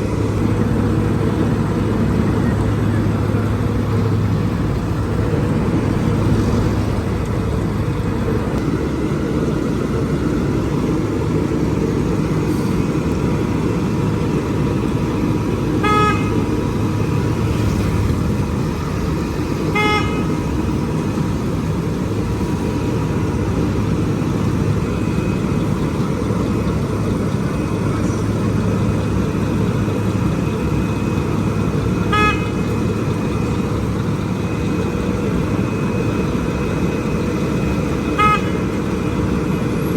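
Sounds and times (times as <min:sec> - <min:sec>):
heavy construction machinery running: 0:00.0 - 0:39.9.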